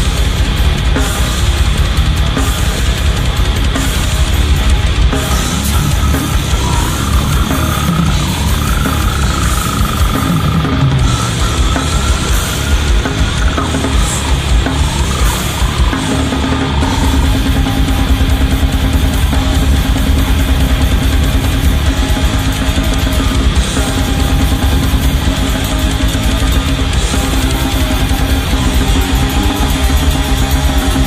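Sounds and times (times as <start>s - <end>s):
heavy metal song: 0.0s - 31.0s.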